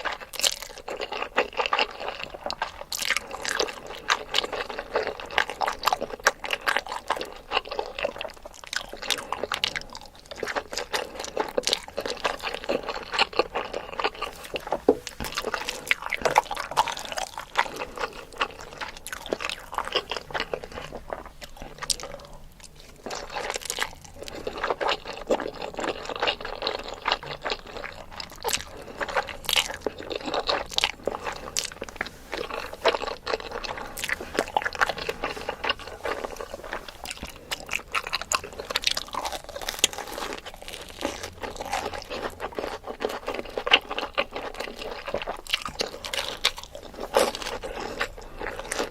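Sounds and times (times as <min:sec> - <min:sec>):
chewing and slurping noodles: 0:00.0 - 0:48.9.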